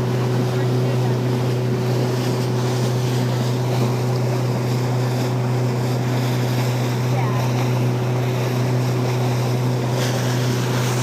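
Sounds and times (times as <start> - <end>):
boat motor running: 0.0 - 11.0
water rushing past: 0.0 - 11.0.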